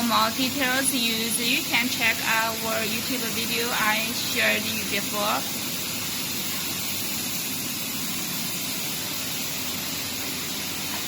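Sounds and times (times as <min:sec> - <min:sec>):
dehumidifier fan air rushing: 0:00.0 - 0:11.0.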